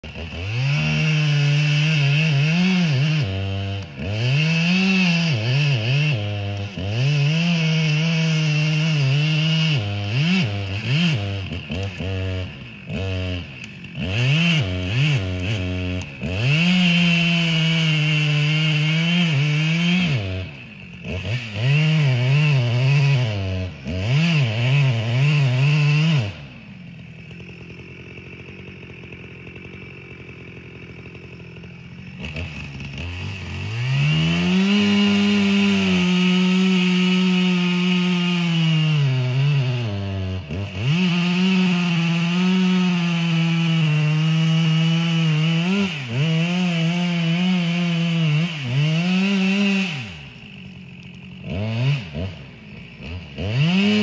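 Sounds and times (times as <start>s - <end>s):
chainsaw cutting tree: 0.0s - 54.0s.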